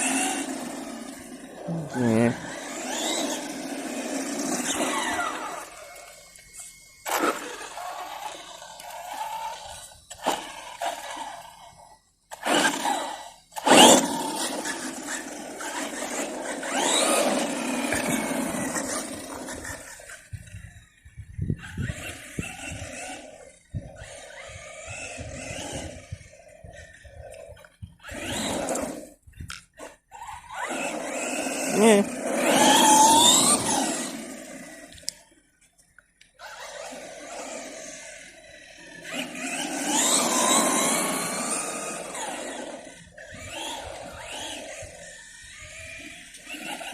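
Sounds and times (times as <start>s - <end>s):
electric motor whining: 0.0s - 35.4s, 36.4s - 46.9s
tyre and ground noise: 0.0s - 46.9s.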